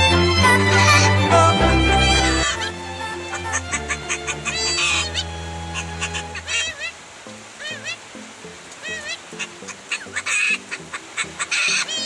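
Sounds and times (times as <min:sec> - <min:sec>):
parrot call: 0:00.0 - 0:07.0, 0:08.8 - 0:12.0
background music with stepping melody: 0:00.0 - 0:12.0.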